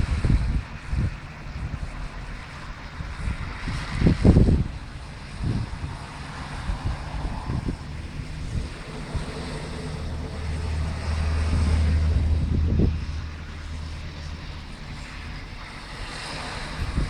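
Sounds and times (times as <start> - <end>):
low rumble: 0.0 - 17.0
wind buffeting microphone: 0.0 - 17.0.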